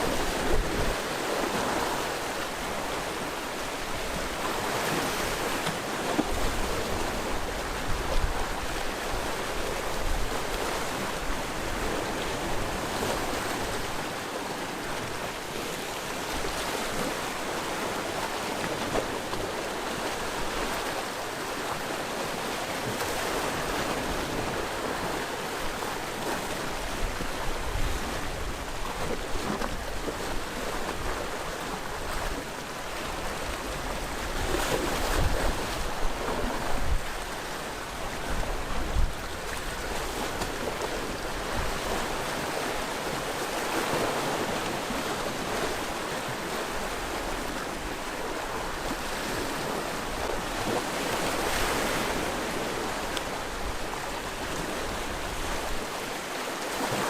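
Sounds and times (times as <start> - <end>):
sea waves washing on shore: 0.0 - 57.0.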